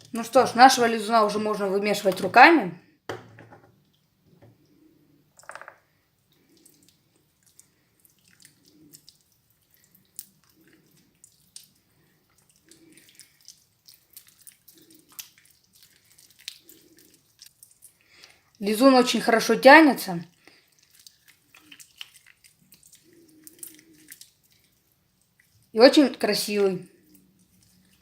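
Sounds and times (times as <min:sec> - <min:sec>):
sticky slime squelches: 0:00.0 - 0:02.7, 0:06.2 - 0:28.0.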